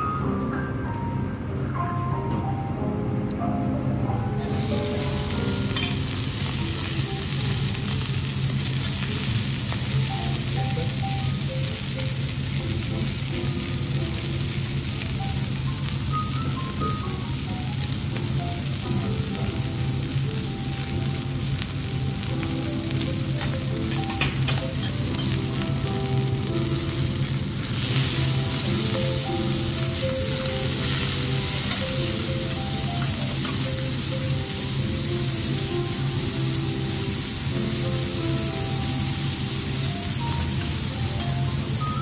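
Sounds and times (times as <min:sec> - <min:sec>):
quiet background music: 0:00.0 - 0:42.0
seafood sizzling on griddle: 0:04.3 - 0:42.0.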